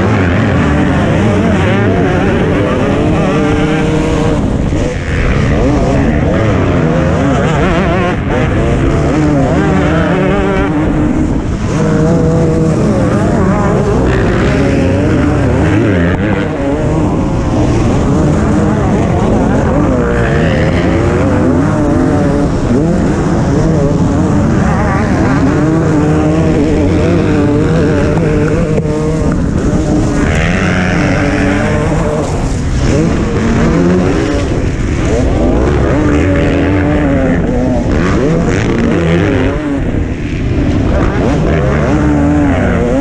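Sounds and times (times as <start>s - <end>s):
motocross engine revving: 0.0s - 43.0s
other motorbikes passing close: 0.0s - 43.0s.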